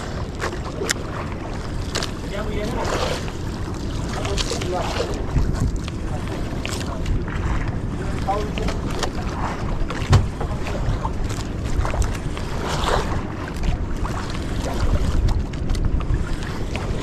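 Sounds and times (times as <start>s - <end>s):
water lapping against boat: 0.0s - 17.0s
wind buffeting microphone: 0.0s - 17.0s.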